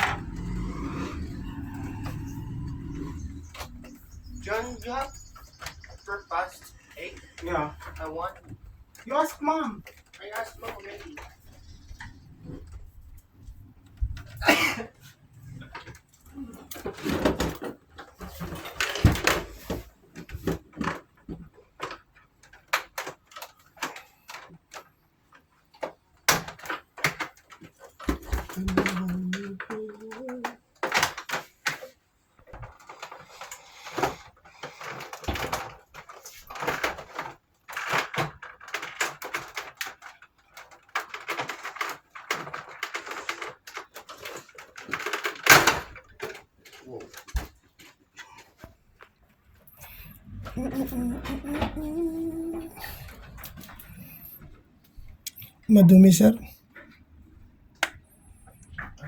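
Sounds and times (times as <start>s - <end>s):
plastic parts clicking and knocking: 0.0s - 55.4s.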